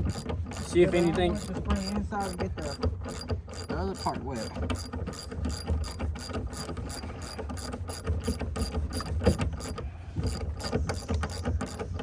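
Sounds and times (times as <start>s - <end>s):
ratchet wrench clicking: 0.0s - 12.0s.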